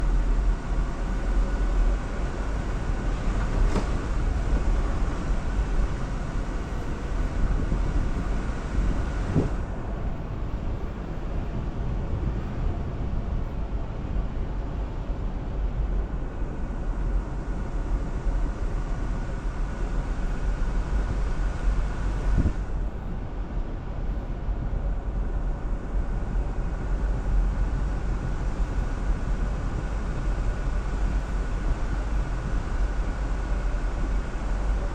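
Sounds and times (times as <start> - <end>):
vehicle engine and tyres rumbling: 0.0 - 34.9.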